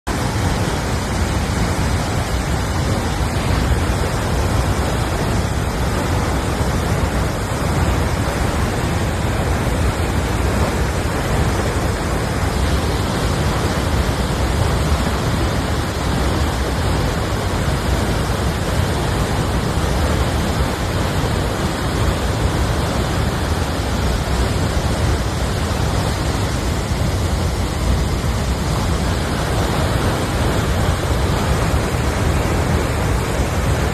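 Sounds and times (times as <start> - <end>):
loud rushing mudflow: 0.0 - 33.9.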